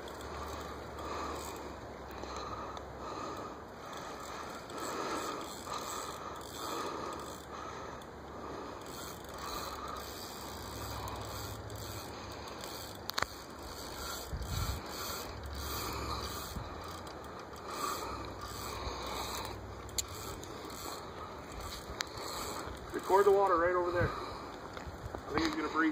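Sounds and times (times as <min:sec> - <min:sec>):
fishing reel gritty whir: 0:00.0 - 0:25.9.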